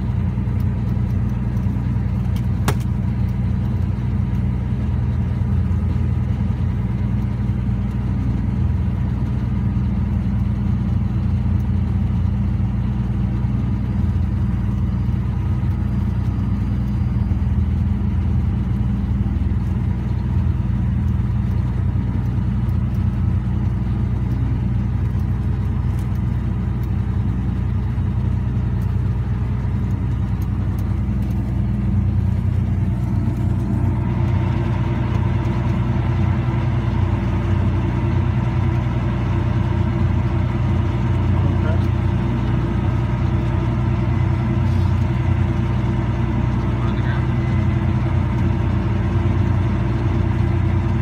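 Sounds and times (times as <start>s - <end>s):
tractor engine under load: 0.0s - 51.0s.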